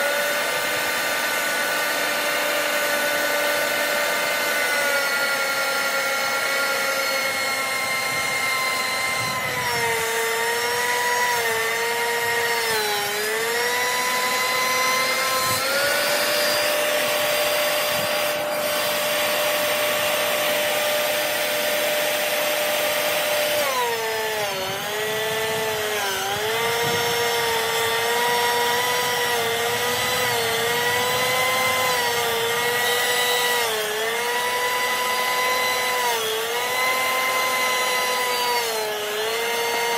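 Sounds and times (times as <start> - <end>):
thickness planer motor whine: 0.0 - 39.9.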